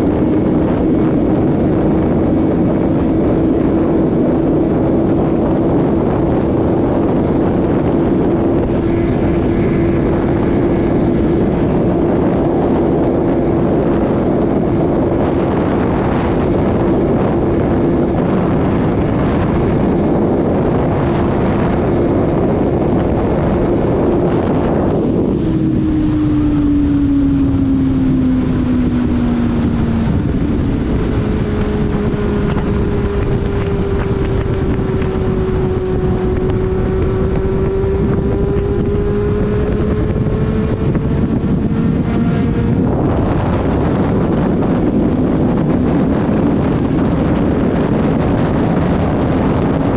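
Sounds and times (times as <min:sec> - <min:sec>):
motorcycle engine: 0:00.0 - 0:49.9
wind rushing over microphone: 0:00.0 - 0:49.9.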